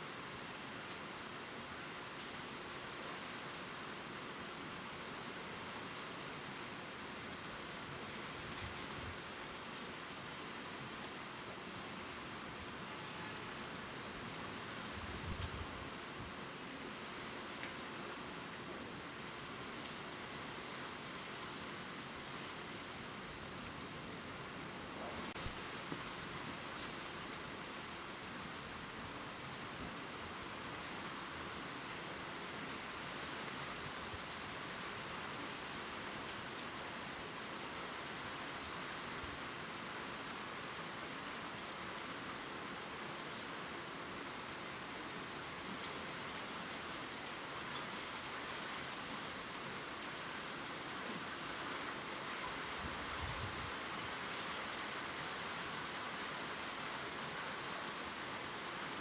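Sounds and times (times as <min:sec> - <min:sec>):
rain pattering on leaves: 0:00.0 - 0:59.0.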